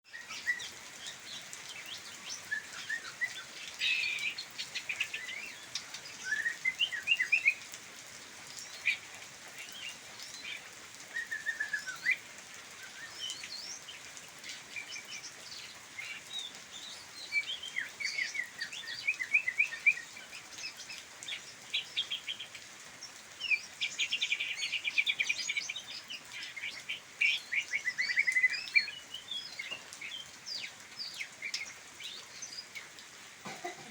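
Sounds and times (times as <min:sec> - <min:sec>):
songbirds chirping and trilling: 0:00.1 - 0:33.8.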